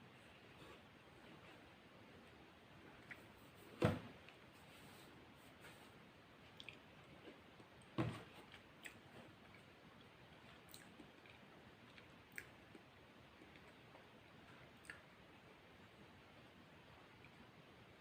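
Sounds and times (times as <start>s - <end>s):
soft chewing: 0.1s - 16.2s.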